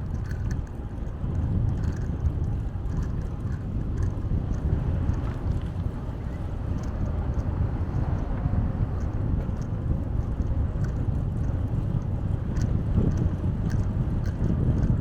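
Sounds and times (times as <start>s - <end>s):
light ticks: 0.0s - 15.0s
moving bicycle rumble: 0.0s - 15.0s
wind buffeting microphone: 0.0s - 15.0s.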